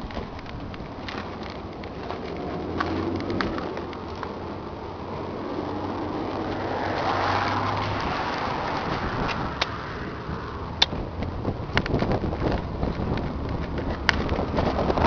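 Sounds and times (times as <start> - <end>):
steady low hum: 0.0 - 15.0
vehicle passing by: 1.4 - 15.0.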